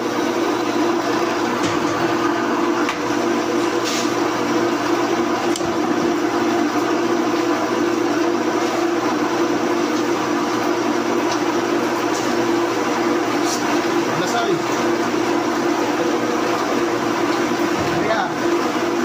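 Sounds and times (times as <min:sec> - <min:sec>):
drill press machine hum: 0:00.0 - 0:19.0.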